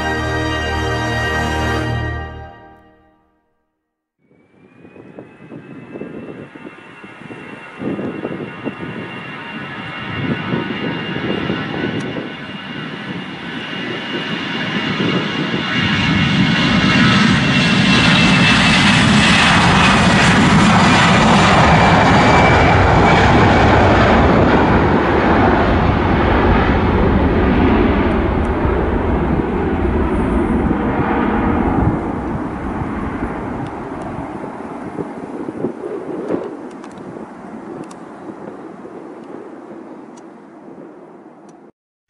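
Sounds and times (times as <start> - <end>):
jet engines roaring at takeoff: 4.3 - 41.7.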